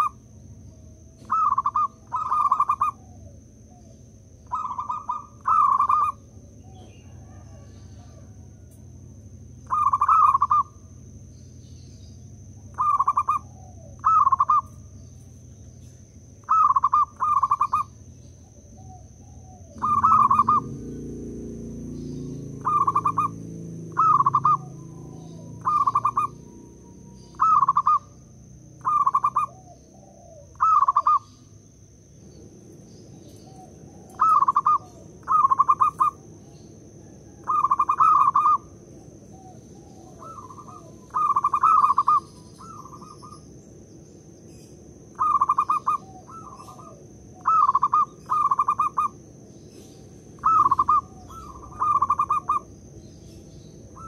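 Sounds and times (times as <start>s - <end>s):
dove cooing: 0.0s - 11.3s, 12.0s - 31.5s, 33.1s - 43.5s, 45.1s - 49.2s, 49.8s - 54.0s.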